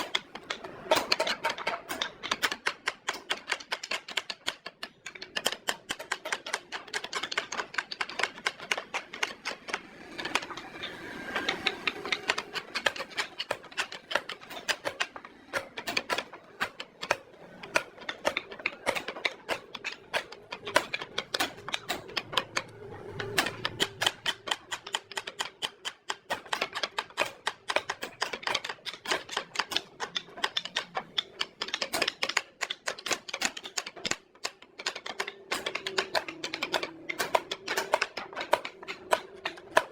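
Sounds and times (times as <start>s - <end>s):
tools tapping on wood: 0.0s - 39.9s.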